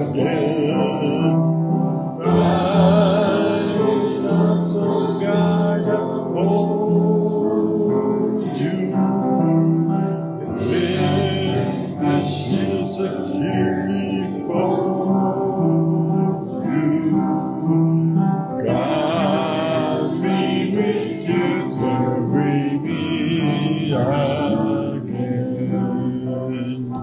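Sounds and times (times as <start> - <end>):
gospel worship singing: 0.0 - 27.0
sustained instrumental chords: 0.0 - 27.0.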